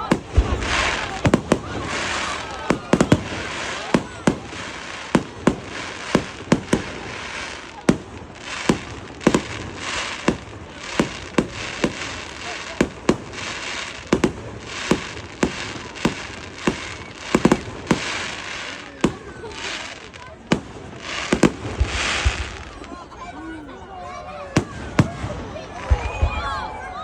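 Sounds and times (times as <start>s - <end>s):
firework bangs: 0.0s - 23.1s, 24.5s - 26.7s
fireworks crackling hiss: 0.0s - 23.4s, 24.5s - 26.4s.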